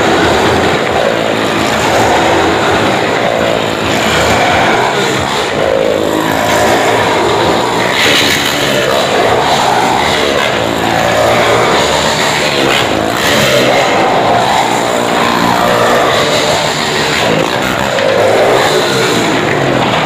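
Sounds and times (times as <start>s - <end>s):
motorcycle engine running hard: 0.0s - 20.0s.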